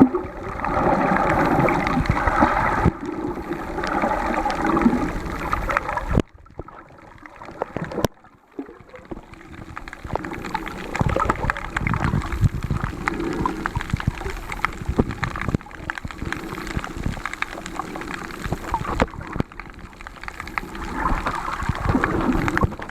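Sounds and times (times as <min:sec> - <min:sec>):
sharp crackling clicks: 0:00.0 - 0:22.9
underwater gurgling and bubbling: 0:00.0 - 0:22.9.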